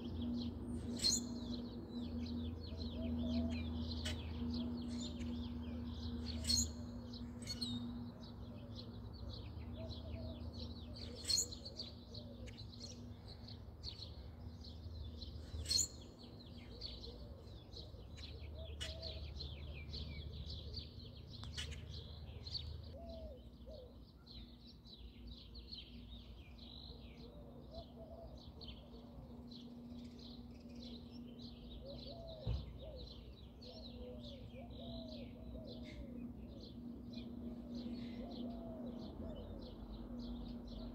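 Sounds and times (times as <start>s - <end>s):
low bird calls: 0.0s - 14.6s, 15.4s - 20.0s, 26.8s - 40.9s
birds chirping: 0.0s - 40.9s
steady low hum: 0.0s - 40.9s.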